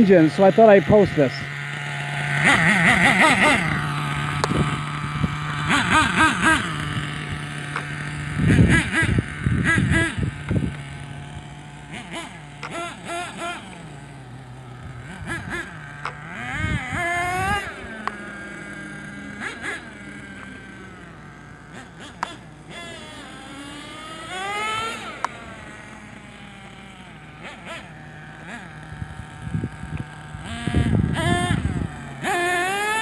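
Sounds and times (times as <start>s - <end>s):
small nitro engine revving: 0.0s - 33.0s.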